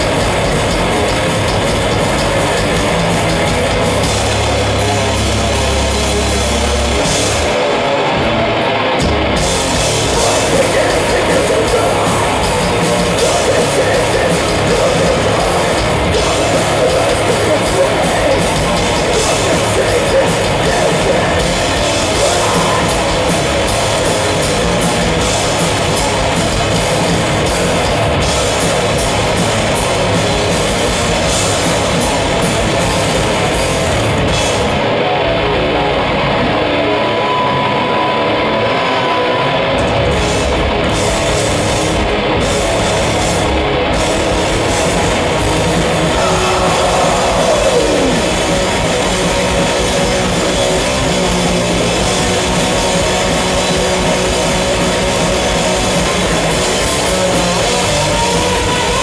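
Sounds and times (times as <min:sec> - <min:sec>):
electric guitars ringing: 0:00.0 - 0:59.0
live heavy metal band: 0:00.0 - 0:59.0.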